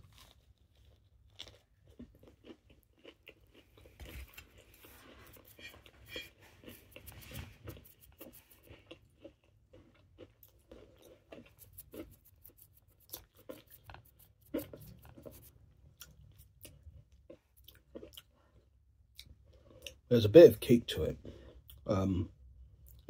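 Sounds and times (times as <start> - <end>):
crunchy chewing: 0.0 - 20.0.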